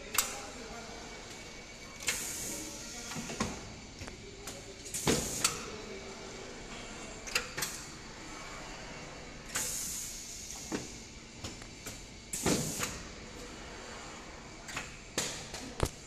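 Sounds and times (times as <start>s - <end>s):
air venting hiss: 0.1s - 6.6s, 7.4s - 16.0s.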